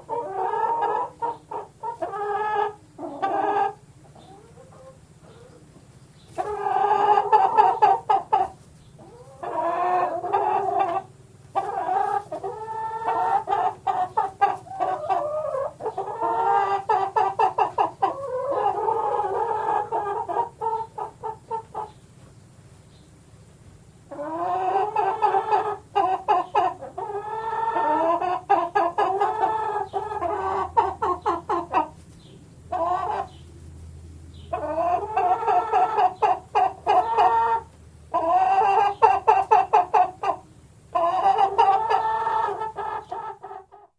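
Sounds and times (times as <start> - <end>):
hens clucking and cackling: 0.0 - 22.4, 23.9 - 43.9.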